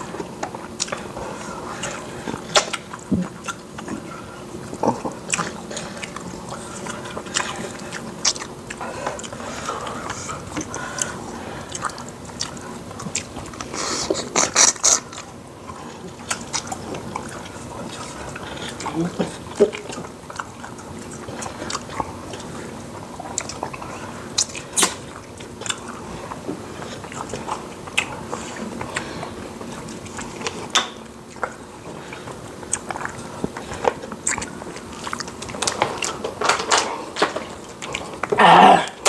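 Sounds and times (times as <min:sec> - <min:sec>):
chewing and mouth smacks: 0:00.0 - 0:39.0.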